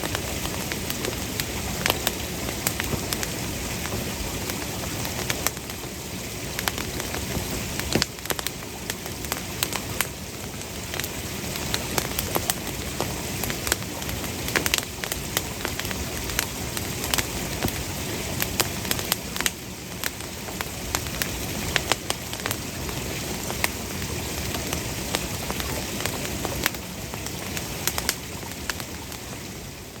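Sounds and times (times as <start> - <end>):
campfire hissing: 0.0 - 30.0
fire crackles and pops: 0.0 - 30.0.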